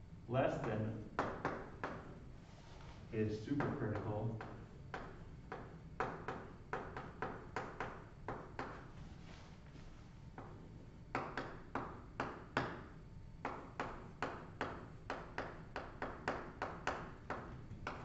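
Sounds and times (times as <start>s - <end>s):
chalk tapping on blackboard: 0.6s - 2.1s, 3.6s - 8.9s, 10.4s - 18.0s.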